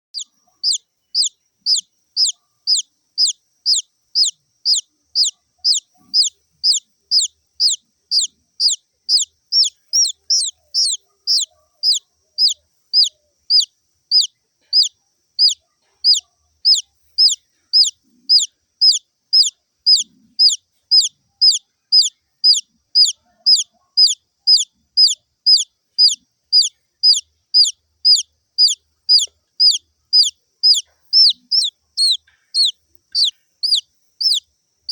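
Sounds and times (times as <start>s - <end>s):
baby chick peeping: 0.1s - 34.9s.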